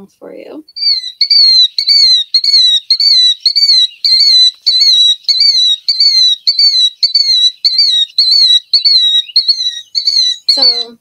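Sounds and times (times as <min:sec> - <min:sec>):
recorded bird calling: 0:00.6 - 0:11.0.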